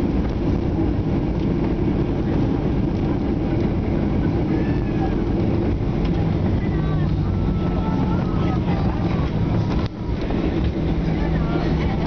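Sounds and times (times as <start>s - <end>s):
aircraft cabin rumble: 0.0s - 12.0s
jet engines: 0.0s - 12.0s
wheels rolling on runway: 0.0s - 12.0s.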